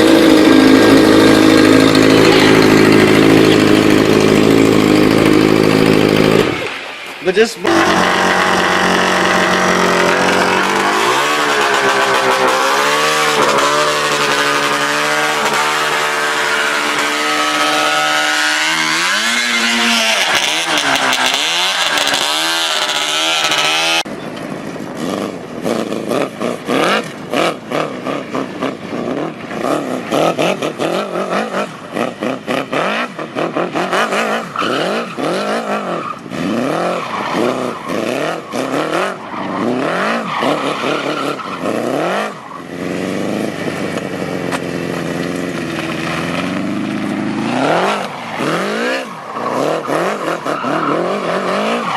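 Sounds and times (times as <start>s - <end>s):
go-kart engine revving: 0.0s - 51.9s.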